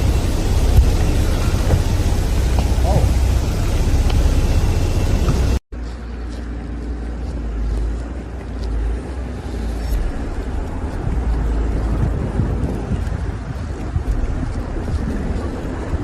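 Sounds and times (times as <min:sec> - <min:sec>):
steady low rumble with hiss: 0:00.0 - 0:16.0.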